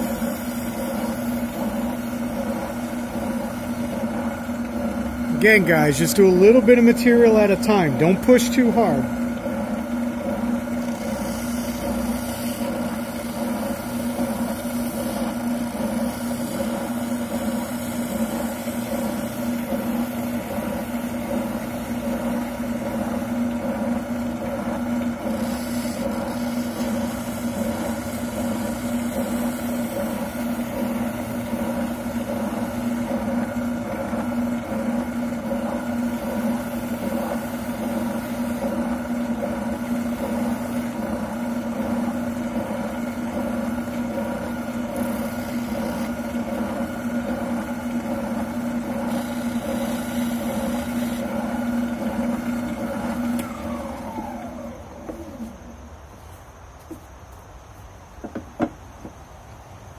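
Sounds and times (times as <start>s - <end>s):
oscillating sander humming: 0.0s - 55.8s.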